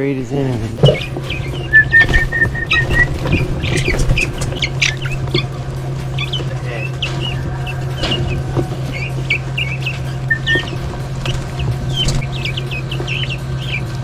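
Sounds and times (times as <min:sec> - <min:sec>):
steady low hum: 0:00.0 - 0:14.0
young guinea fowl peeping: 0:00.4 - 0:14.0.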